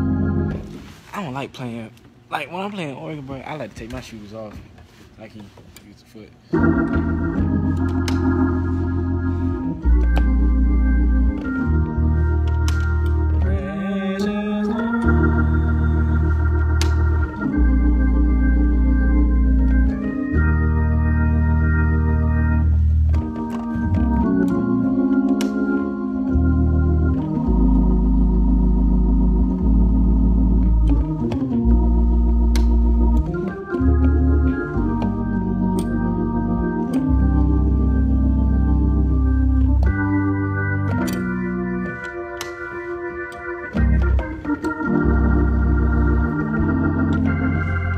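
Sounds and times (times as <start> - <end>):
gospel organ chords: 0.0 - 1.2, 6.4 - 47.9.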